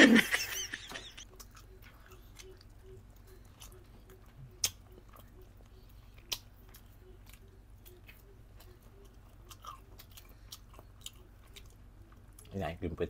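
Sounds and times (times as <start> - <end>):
chewing with wet mouth clicks: 1.2 - 12.6.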